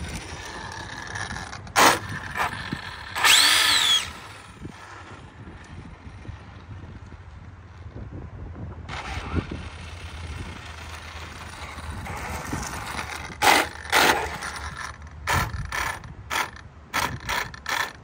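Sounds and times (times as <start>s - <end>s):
rc car motor and gear whine: 0.0s - 7.3s, 8.8s - 18.0s.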